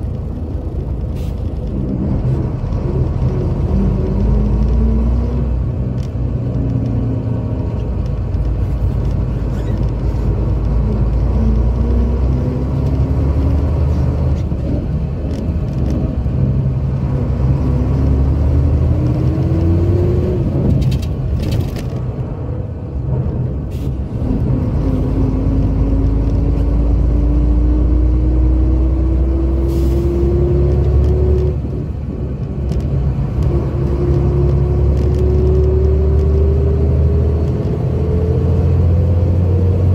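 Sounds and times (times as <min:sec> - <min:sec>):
diesel bus engine rumbling: 0:00.0 - 0:39.9.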